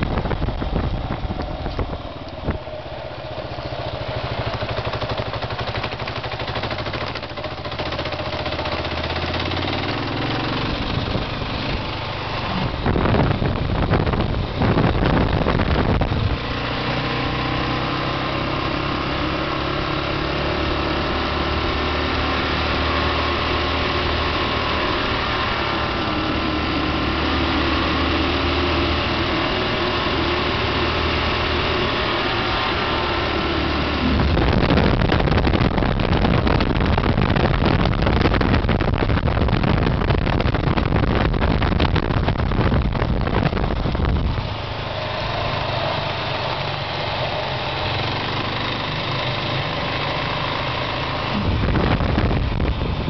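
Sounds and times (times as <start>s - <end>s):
rough rushing noise: 0.0s - 17.2s, 22.5s - 53.0s
motorcycle engine running: 0.0s - 53.0s.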